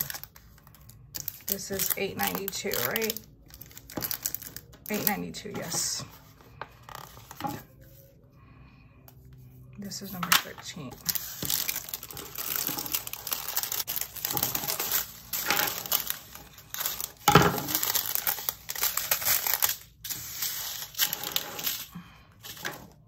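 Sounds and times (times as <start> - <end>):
plastic bags crinkling: 0.0 - 7.7, 10.0 - 23.0.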